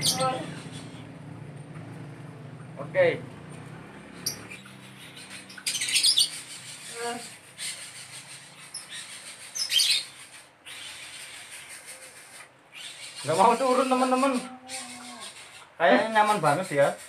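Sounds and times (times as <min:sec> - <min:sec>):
bird chick harsh raspy calls: 0:00.0 - 0:01.2, 0:04.1 - 0:17.0.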